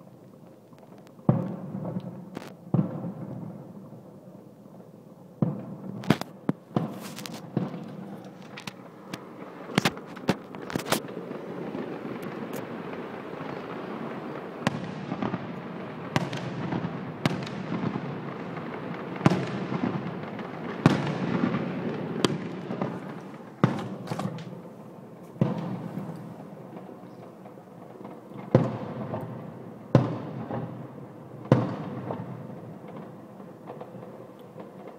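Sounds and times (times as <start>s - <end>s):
fireworks bursting in sharp bangs: 0.7s - 3.9s, 5.4s - 34.9s.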